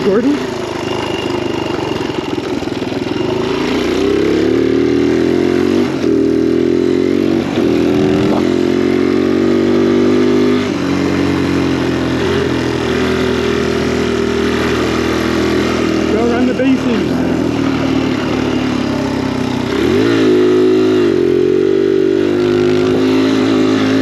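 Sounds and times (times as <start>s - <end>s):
dirt bike engine running hard: 0.0s - 24.0s.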